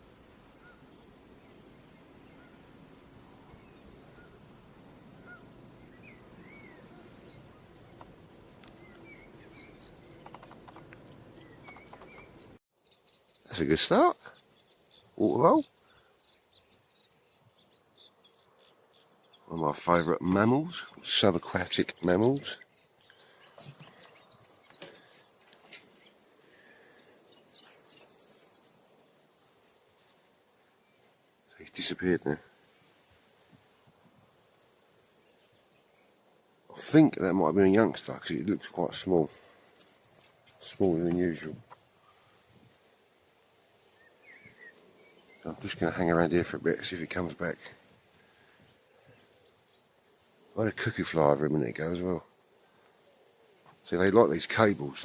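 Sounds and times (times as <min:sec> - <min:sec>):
songbird singing: 0:00.0 - 0:32.9, 0:33.7 - 0:55.0
faint marsh background: 0:00.0 - 0:55.0
small birds chirping: 0:00.0 - 0:55.0.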